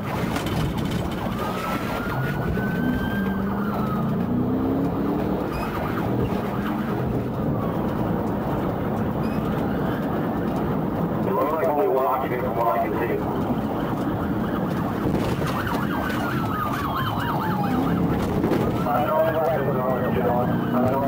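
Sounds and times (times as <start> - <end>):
car engine and road noise: 0.0 - 21.0
police siren wailing: 0.0 - 21.0.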